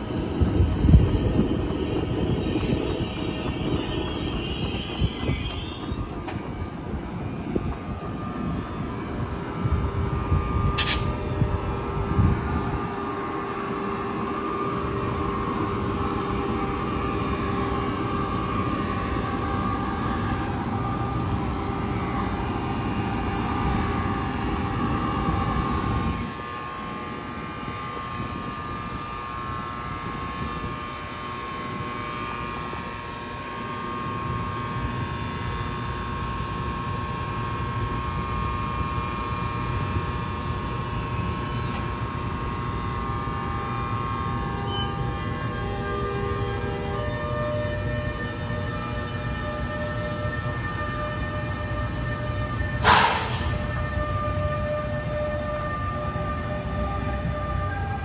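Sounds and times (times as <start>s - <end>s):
drone of blowers: 0.0s - 58.0s.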